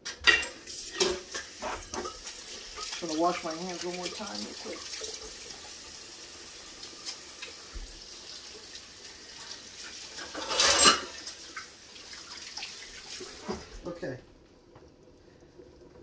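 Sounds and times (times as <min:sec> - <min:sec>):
tap water running: 0:00.0 - 0:16.0.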